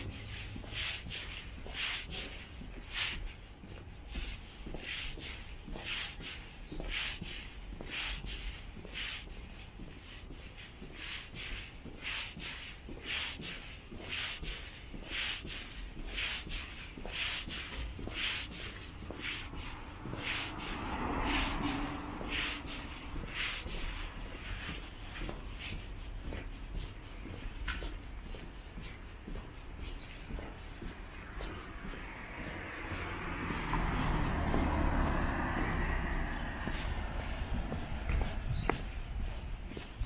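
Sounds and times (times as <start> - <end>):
footsteps on asphalt: 0.0 - 40.0.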